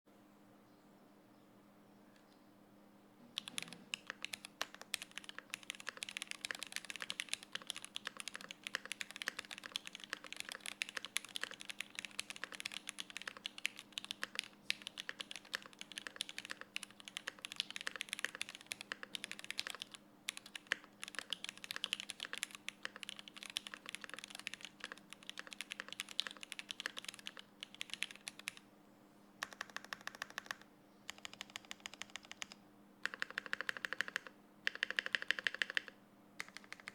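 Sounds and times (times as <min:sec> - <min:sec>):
fast mechanical keyboard typing: 0:03.4 - 0:28.6, 0:29.4 - 0:36.9.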